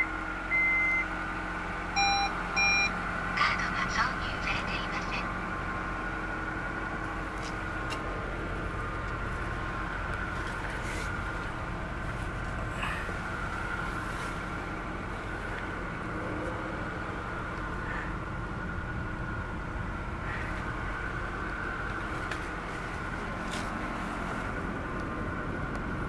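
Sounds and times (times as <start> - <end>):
engine idling hum: 0.0 - 26.0.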